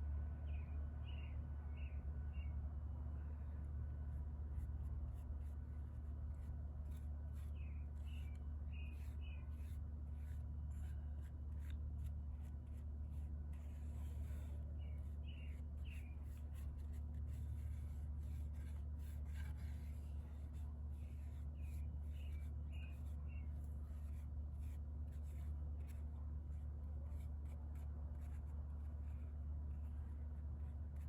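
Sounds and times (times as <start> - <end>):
steady low hum: 0.0 - 31.0
light scratching and rubbing: 4.6 - 31.0.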